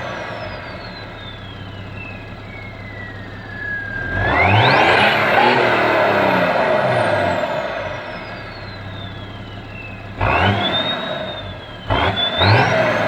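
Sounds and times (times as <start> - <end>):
diesel engine revving: 0.0 - 13.0
turbo whistle: 0.7 - 13.0.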